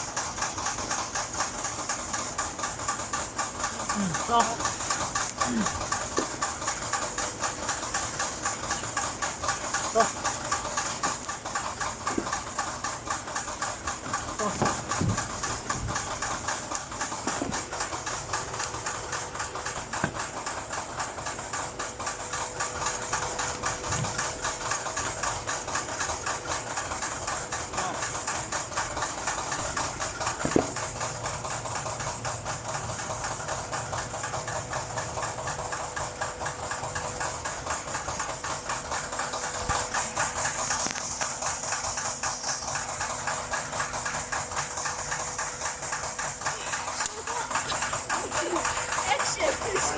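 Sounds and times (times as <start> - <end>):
machine clattering: 0.0 - 49.9
machine hum: 0.0 - 49.9.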